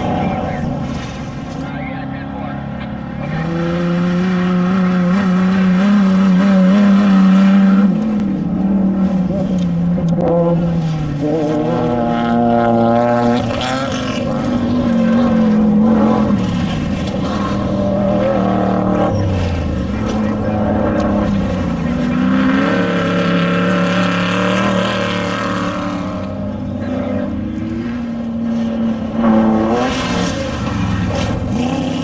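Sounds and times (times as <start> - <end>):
race vehicle engines running hard: 0.0 - 32.0.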